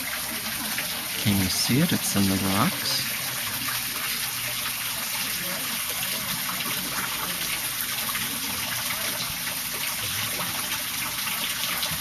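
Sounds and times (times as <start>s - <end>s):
water running from a fountain: 0.0s - 12.0s.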